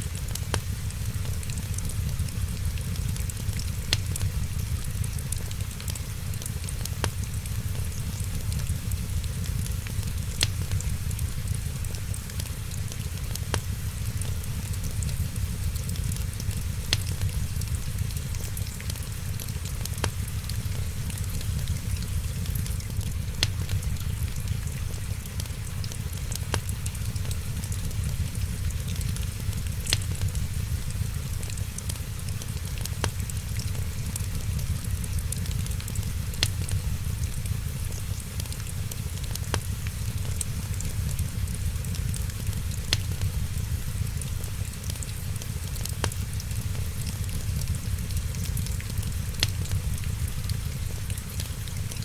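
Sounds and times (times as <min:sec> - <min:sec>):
rain falling: 0:00.0 - 0:52.0
wood fire crackling: 0:00.0 - 0:52.0.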